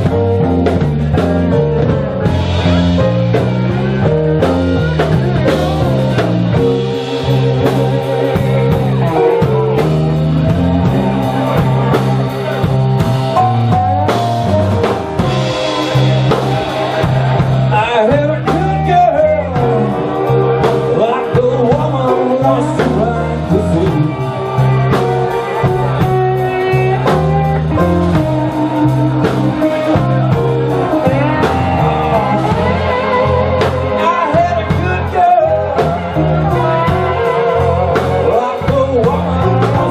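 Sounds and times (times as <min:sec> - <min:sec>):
drum kit: 0:00.0 - 0:39.9
electric guitar bent notes: 0:00.0 - 0:39.9
steady bass line: 0:00.0 - 0:39.9.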